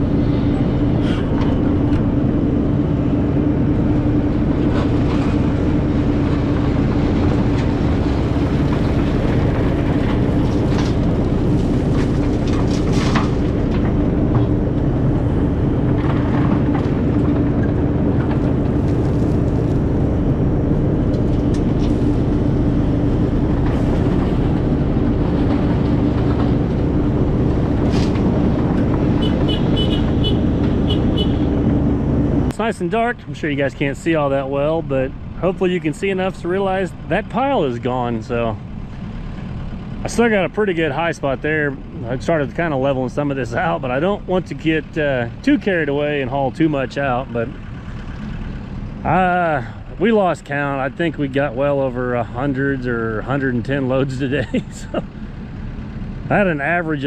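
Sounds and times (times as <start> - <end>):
heavy equipment engine running: 0.0 - 57.0.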